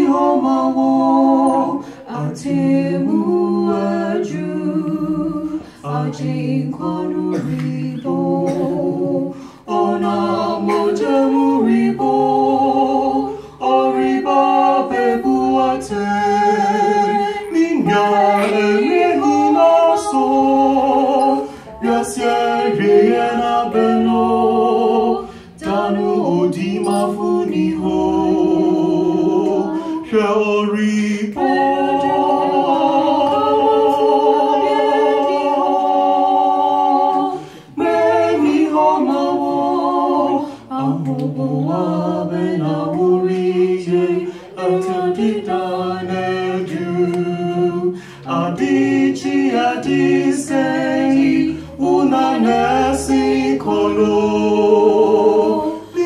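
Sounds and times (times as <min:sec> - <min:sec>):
man and woman singing: 0:00.0 - 0:56.0.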